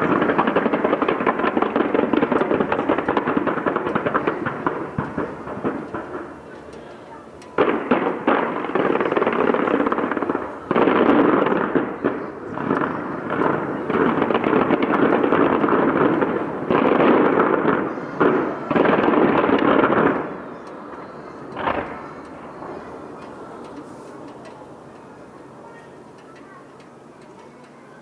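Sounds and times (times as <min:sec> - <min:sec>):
fireworks exploding: 0:00.0 - 0:26.1.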